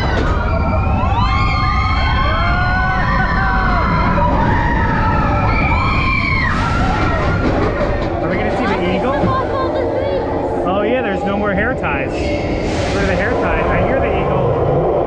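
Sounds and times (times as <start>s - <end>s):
coaster train rumbling on track: 0.0s - 15.0s.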